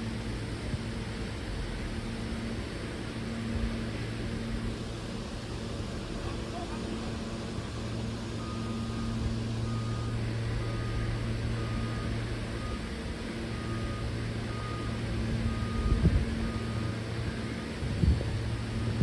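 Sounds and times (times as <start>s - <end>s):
subway train hum and rumble: 0.0s - 19.0s.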